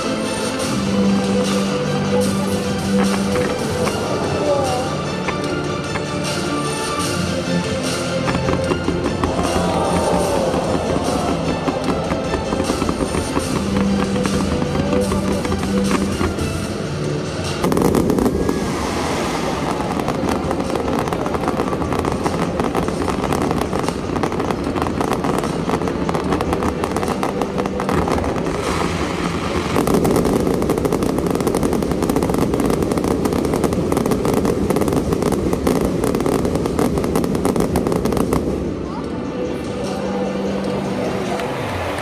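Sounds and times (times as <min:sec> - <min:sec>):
fireworks crackling and popping: 0:02.2 - 0:38.8.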